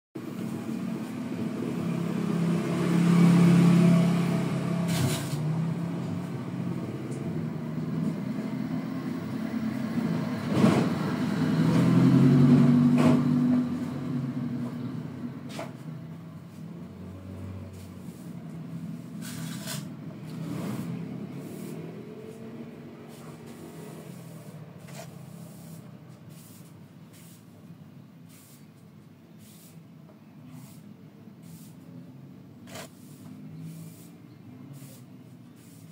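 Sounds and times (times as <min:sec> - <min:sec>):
vehicle engine passing by: 0:00.2 - 0:27.5, 0:30.5 - 0:35.9.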